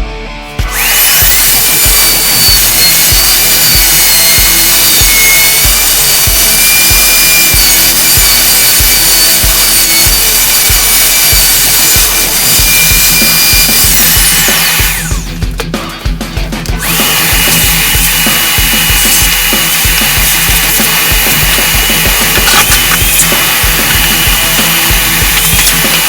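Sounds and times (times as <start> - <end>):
background music with beat: 0.0 - 26.0
wood router whining: 0.5 - 15.9, 16.7 - 26.0.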